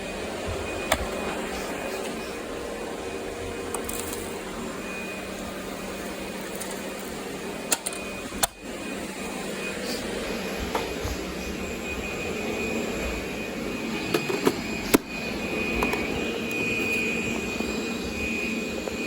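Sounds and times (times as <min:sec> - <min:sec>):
robot vacuum humming: 0:00.0 - 0:19.0.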